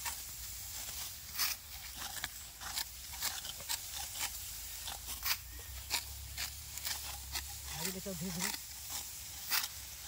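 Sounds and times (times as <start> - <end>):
rice stalks rustling and crackling: 0.0 - 10.0.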